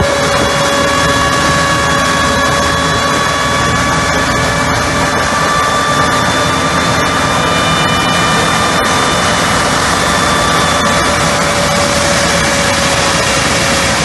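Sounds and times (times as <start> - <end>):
low engine rumble: 0.0 - 14.0
vacuum unit rushing air whine: 0.0 - 14.0.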